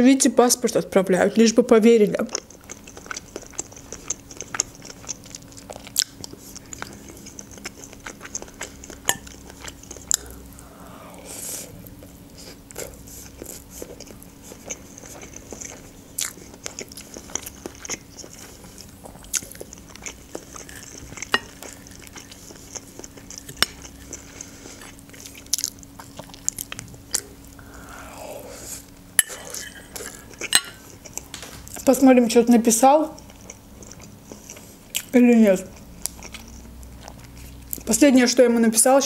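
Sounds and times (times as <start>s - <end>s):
person chewing food: 2.2s - 31.9s, 33.1s - 37.9s.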